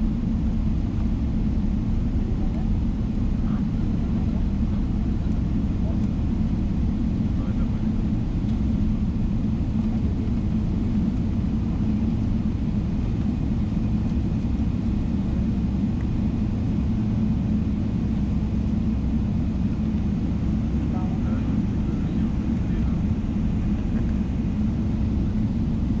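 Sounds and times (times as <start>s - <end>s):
aircraft cabin low rumble: 0.0s - 26.0s.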